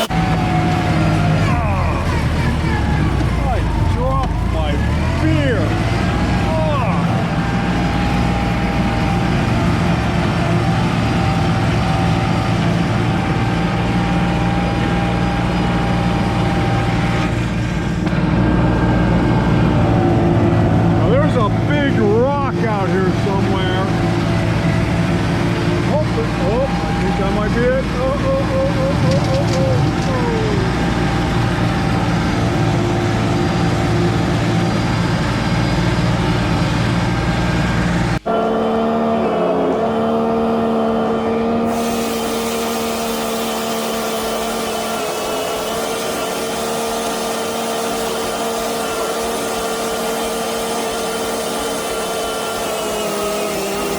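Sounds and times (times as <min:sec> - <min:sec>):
rotary cutter high whine: 0:00.0 - 0:53.9
tractor diesel engine running: 0:00.0 - 0:53.9.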